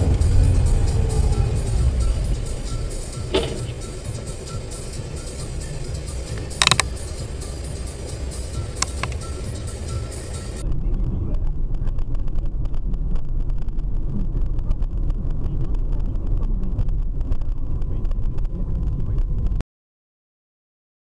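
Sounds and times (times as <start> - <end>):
car engine and road noise: 0.0 - 19.6.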